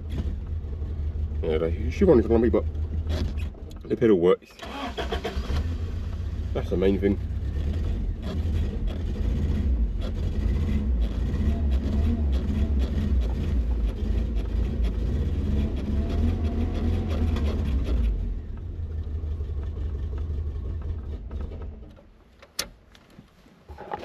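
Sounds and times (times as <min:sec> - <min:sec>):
car engine running lumpy: 0:00.0 - 0:04.4, 0:05.4 - 0:24.0.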